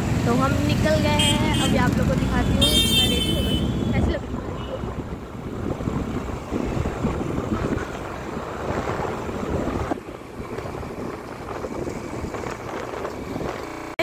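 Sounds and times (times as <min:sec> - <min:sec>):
vehicle and road noise: 0:00.0 - 0:14.0
wind buffeting microphone: 0:00.1 - 0:13.9.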